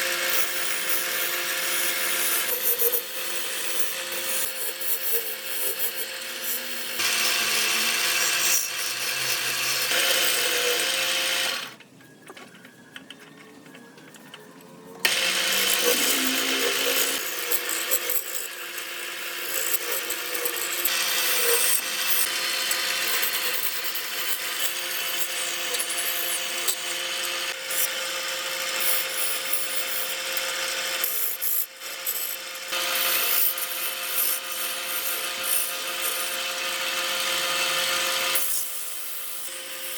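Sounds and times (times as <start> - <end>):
power tool cutting wood: 0.0 - 11.8, 14.7 - 39.9.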